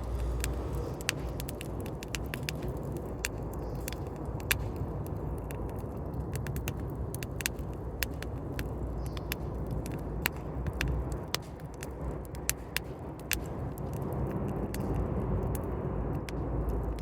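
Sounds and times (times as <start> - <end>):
campfire crackling: 0.0 - 17.0
sharp snaps and pops: 0.0 - 17.0
steady low rumble: 0.0 - 17.0.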